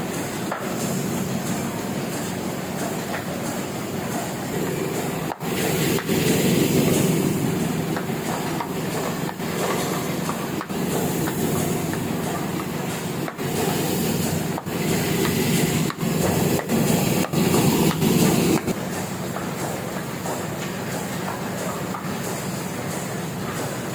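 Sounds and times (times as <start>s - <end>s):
printing press clatter: 0.0s - 23.9s.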